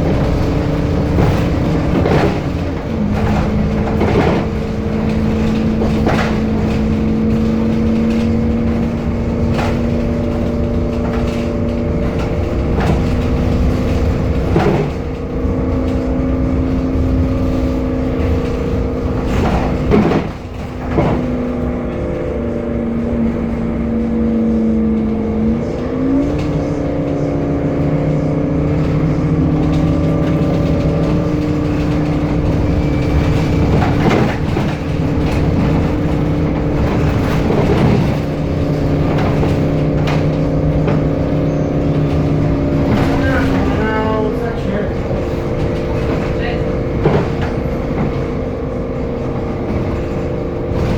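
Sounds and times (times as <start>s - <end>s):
bus engine and gearbox whine: 0.0s - 50.9s
knocks and rattles: 0.0s - 50.9s.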